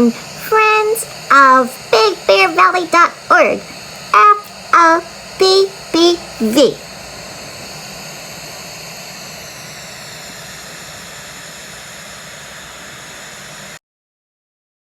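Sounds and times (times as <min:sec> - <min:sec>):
steady background hiss: 0:00.0 - 0:13.8.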